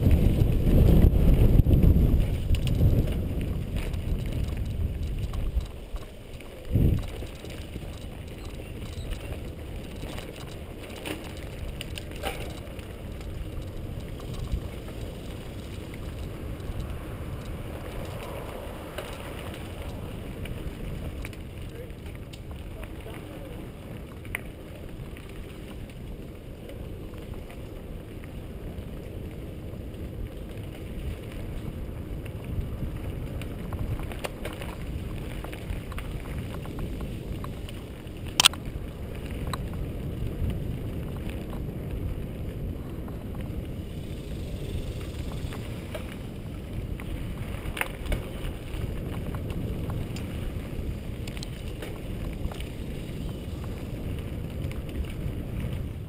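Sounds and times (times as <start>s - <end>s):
bike rattles and clicks: 0.0s - 56.0s
low rumble of tyres and wind: 0.0s - 56.0s.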